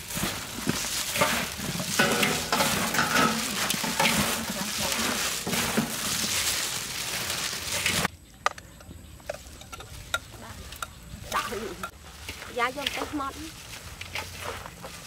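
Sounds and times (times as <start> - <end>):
food sizzling: 0.0 - 8.1, 9.5 - 15.0
stirring scrapes and knocks: 0.0 - 8.1, 9.2 - 15.0.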